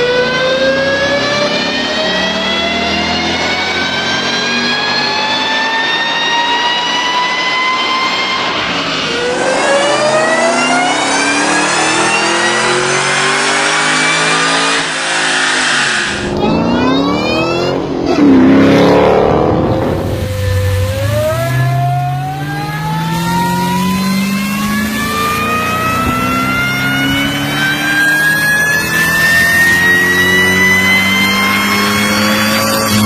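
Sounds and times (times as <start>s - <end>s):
supercharged car engine accelerating: 0.0s - 33.0s.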